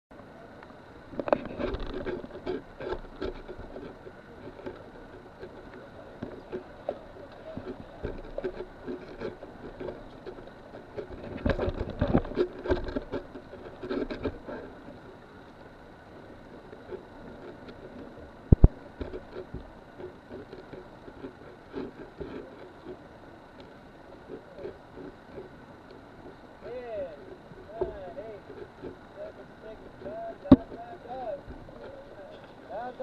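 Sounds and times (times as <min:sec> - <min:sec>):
low steady background noise: 0:00.1 - 0:33.0
scuba gear clattering: 0:01.1 - 0:33.0.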